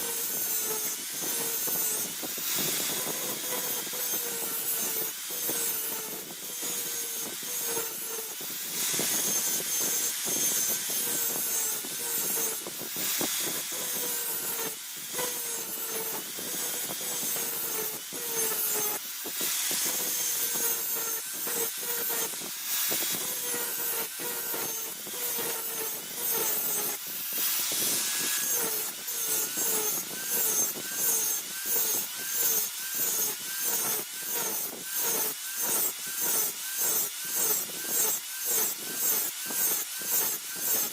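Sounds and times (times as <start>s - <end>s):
hand file scraping steel: 0.0s - 40.9s.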